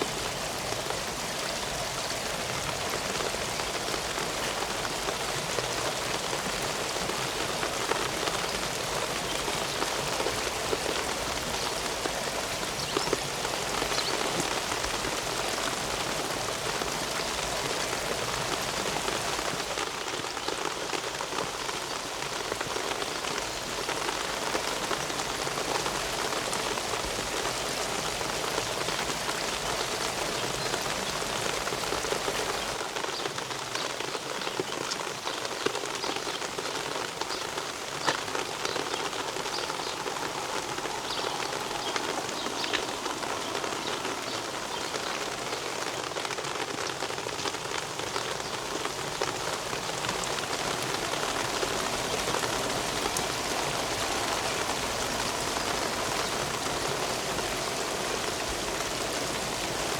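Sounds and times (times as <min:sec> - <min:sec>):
raindrops tapping close by: 0:00.0 - 0:59.9
steady rain: 0:00.0 - 0:59.9.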